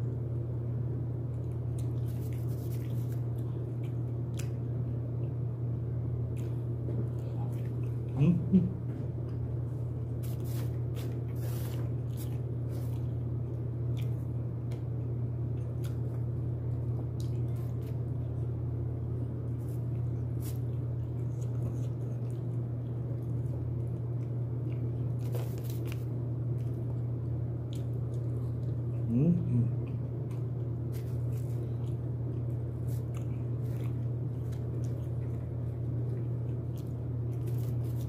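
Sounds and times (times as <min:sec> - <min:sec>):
steady low hum: 0:00.0 - 0:38.0
person chewing crunchy chicken: 0:01.3 - 0:05.4, 0:09.2 - 0:29.0, 0:29.8 - 0:38.0.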